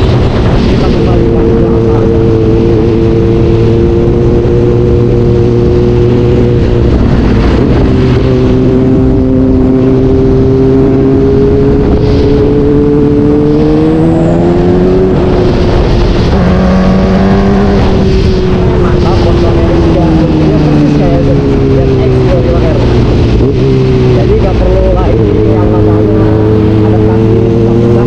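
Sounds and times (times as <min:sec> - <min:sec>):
motorcycle engine revving high: 0:00.0 - 0:28.0.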